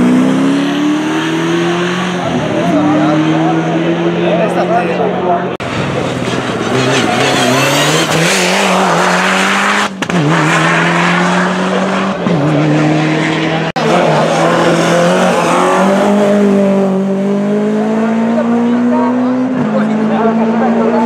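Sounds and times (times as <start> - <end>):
race car engines at full throttle: 0.0 - 21.0.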